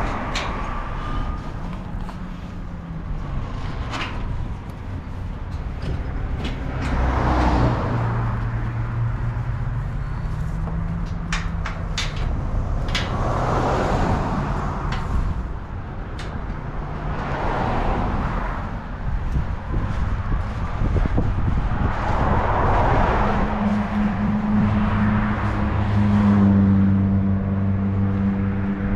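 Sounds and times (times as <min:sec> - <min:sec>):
vehicles whooshing past: 0:00.0 - 0:28.9.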